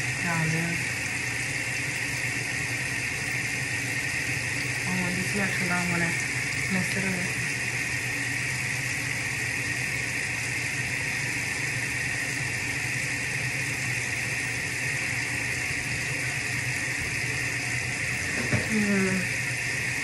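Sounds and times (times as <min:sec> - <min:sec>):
running water from a tap: 0:00.0 - 0:20.0.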